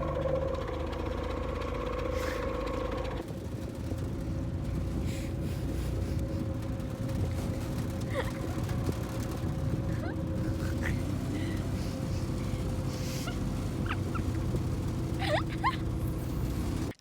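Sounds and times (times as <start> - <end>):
engine droning hum: 0.0 - 17.0.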